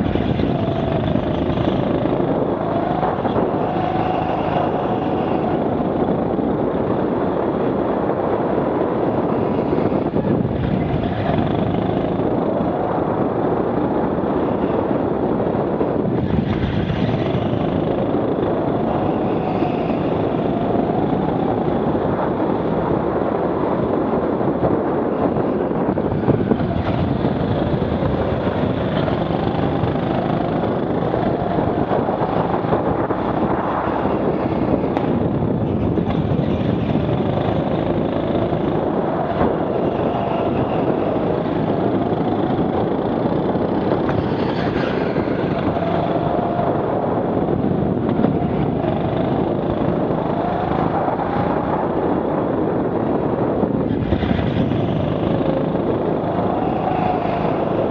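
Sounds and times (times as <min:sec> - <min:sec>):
go-kart engine revving: 0:00.0 - 0:07.3, 0:08.9 - 0:23.1, 0:25.2 - 0:52.0, 0:52.8 - 0:57.9.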